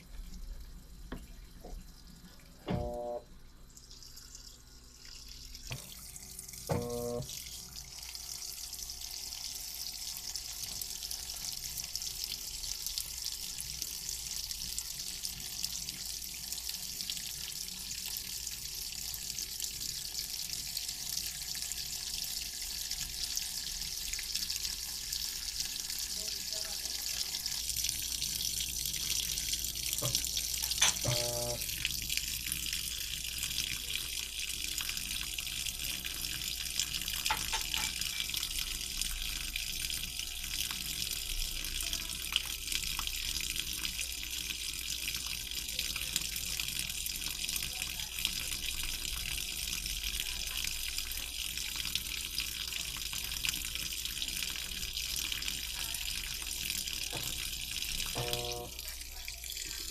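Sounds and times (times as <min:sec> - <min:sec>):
water rushing into washing machine: 0:00.0 - 0:03.9, 0:04.9 - 0:49.8, 0:51.8 - 0:59.9.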